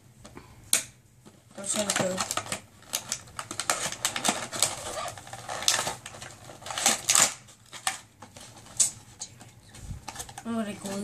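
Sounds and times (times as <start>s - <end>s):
sharp clicks of packaging: 0.7s - 11.0s
cardboard and packing crinkling: 1.2s - 11.0s.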